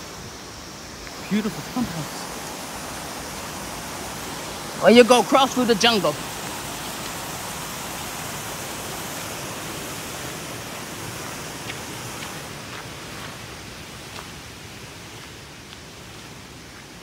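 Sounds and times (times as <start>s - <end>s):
flowing water hiss: 0.0s - 17.0s.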